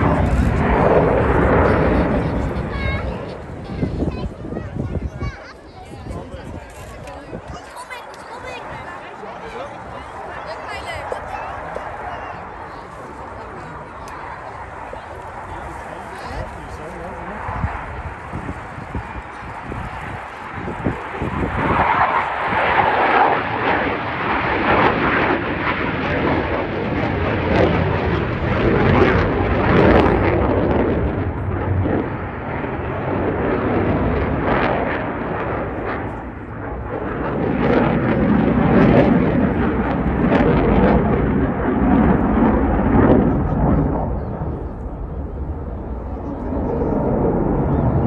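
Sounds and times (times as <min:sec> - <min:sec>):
fighter jet flying overhead: 0:00.0 - 0:48.0.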